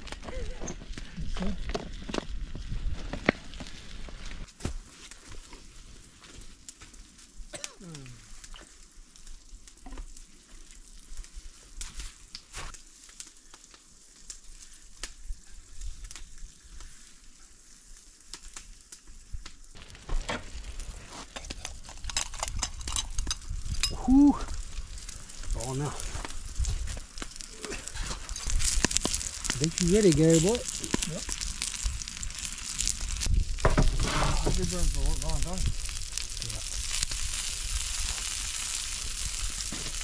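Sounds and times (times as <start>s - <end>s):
fish sizzling on a griddle: 0.0s - 7.5s, 8.1s - 40.0s
pops and crackles: 0.0s - 17.2s, 18.2s - 40.0s.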